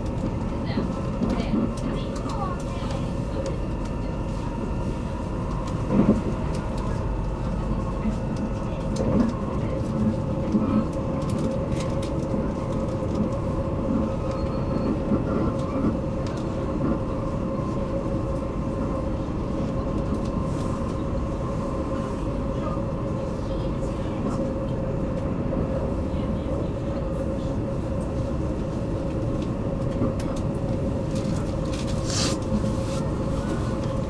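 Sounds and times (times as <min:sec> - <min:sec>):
train rumble and hum: 0:00.0 - 0:34.0.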